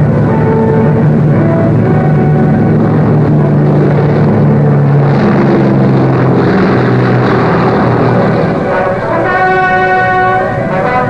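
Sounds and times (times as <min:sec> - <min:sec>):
propeller engines droning: 0:00.0 - 0:11.0.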